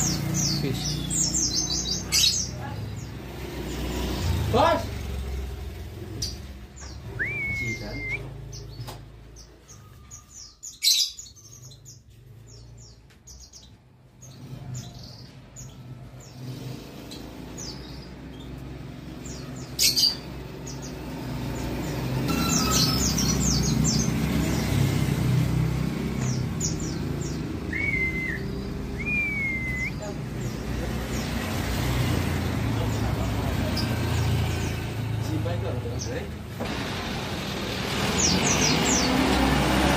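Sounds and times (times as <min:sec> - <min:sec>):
birds giving high chirps: 0:00.0 - 0:39.9
road traffic rumble: 0:00.0 - 0:39.9.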